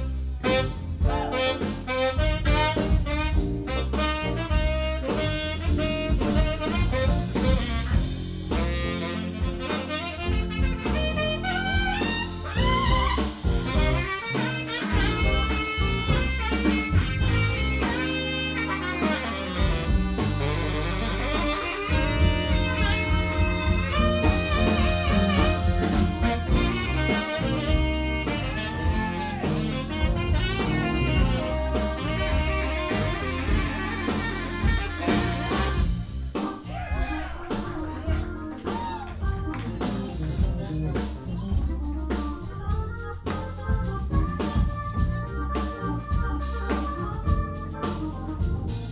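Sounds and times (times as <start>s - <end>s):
blues jazz band playing: 0.0s - 48.9s
drums: 0.0s - 48.9s
saxophone lead: 0.0s - 48.9s.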